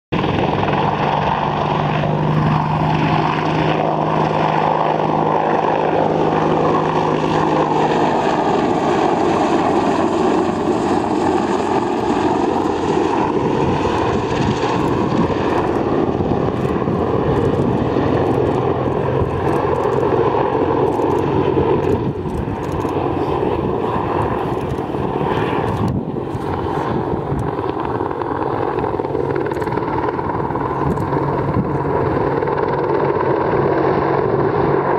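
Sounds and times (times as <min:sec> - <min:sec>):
helicopter flying: 0:00.1 - 0:34.9.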